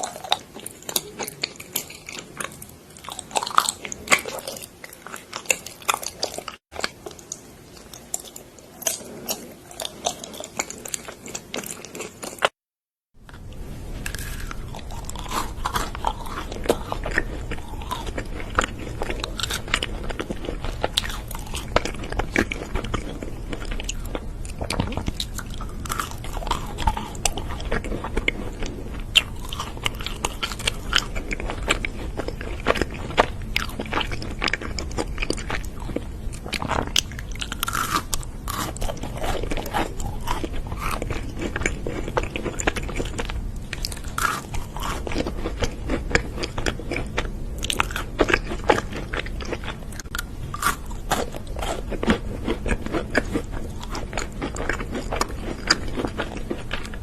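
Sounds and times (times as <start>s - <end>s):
person chewing crunchy food: 0.0s - 12.6s, 13.2s - 57.0s.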